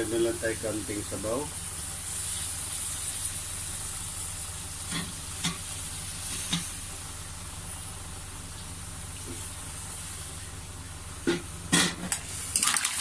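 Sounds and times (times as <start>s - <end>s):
mussels sizzling in a wok: 0.0s - 13.0s.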